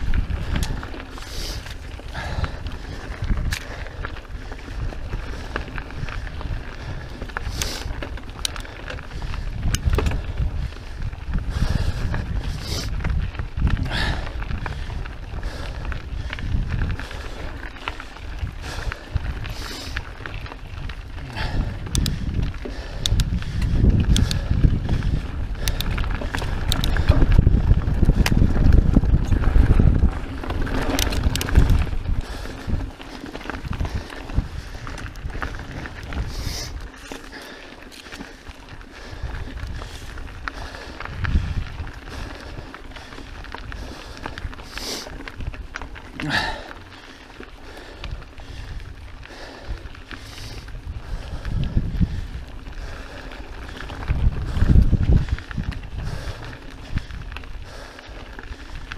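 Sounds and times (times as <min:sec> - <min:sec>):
bike clicks and rattles: 0:00.0 - 0:58.9
tyres crunching over gravel: 0:00.0 - 0:58.9
wind rumbling on microphone: 0:00.0 - 0:58.9.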